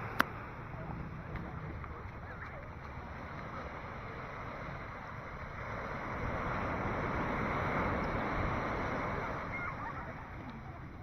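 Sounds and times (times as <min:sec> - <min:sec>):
sea waves washing ashore: 0:00.0 - 0:11.0.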